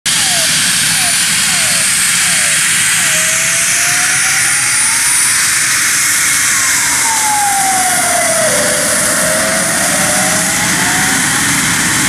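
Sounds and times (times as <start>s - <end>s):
jet engines whining: 0.1s - 12.0s.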